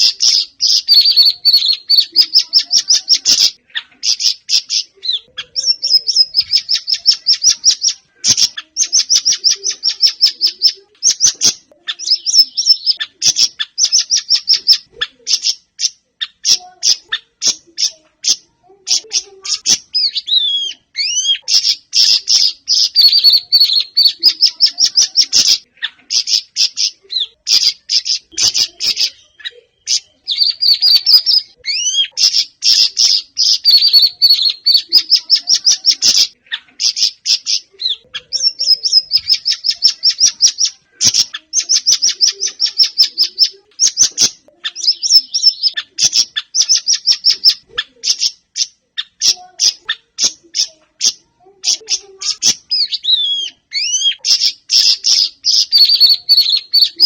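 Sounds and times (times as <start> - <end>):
songbird chirps and trills: 0.0 - 57.0.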